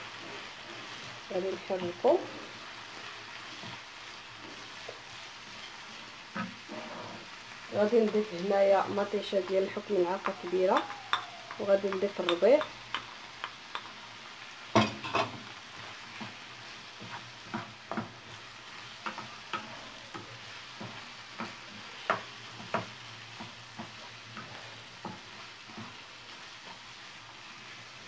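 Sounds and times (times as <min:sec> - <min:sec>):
filling sizzling in frying pan: 0:00.0 - 0:28.0.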